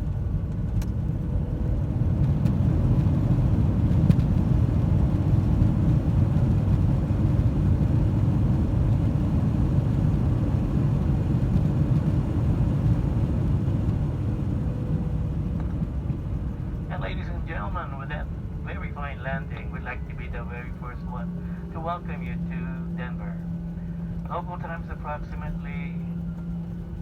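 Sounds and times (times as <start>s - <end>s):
airliner cabin low rumble: 0.0s - 27.0s.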